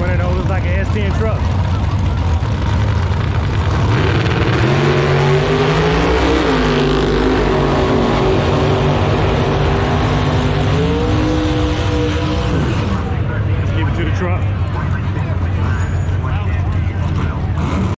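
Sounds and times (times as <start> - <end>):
racing engines at full throttle: 0.0 - 18.0.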